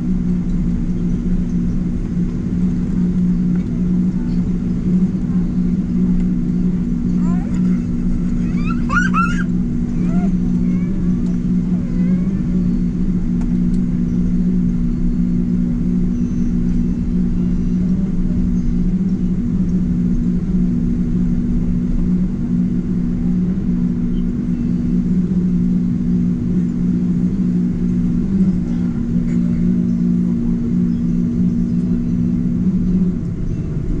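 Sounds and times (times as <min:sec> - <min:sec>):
jet engine drone in cabin: 0:00.0 - 0:34.0
low two-note hum: 0:00.0 - 0:34.0.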